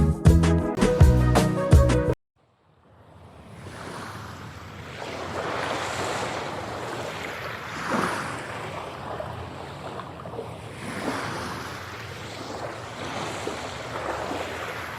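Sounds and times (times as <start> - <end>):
waves breaking on beach: 2.6 - 14.9.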